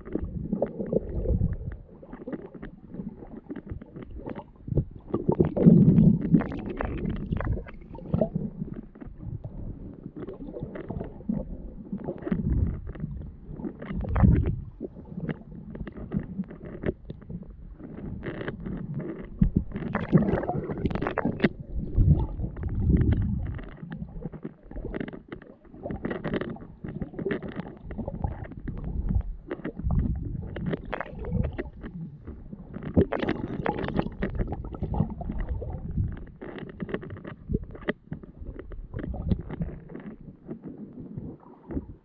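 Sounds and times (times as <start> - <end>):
clicks and crackles: 0.0 - 42.0
underwater rumbling and sloshing: 0.0 - 42.0.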